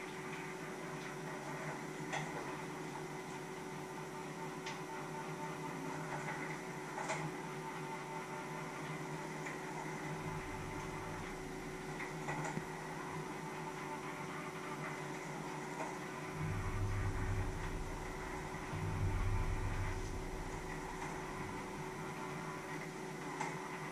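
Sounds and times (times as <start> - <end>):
electrical hum: 0.0 - 23.9.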